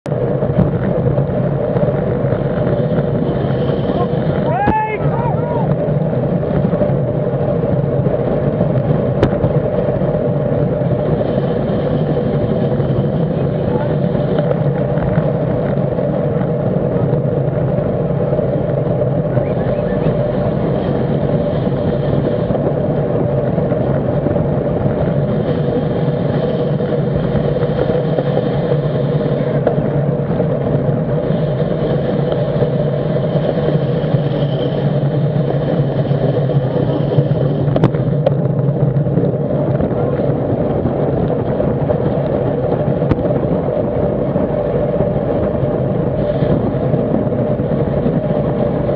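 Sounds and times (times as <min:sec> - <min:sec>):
wind and road noise: 0:00.0 - 0:48.9.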